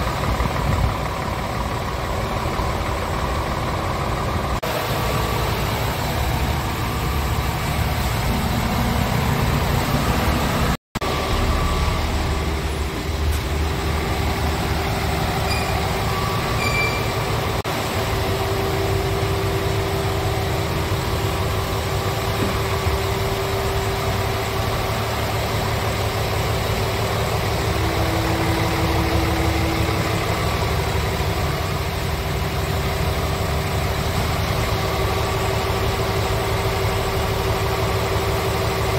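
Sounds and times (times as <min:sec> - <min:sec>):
diesel truck idling: 0:00.0 - 0:38.9.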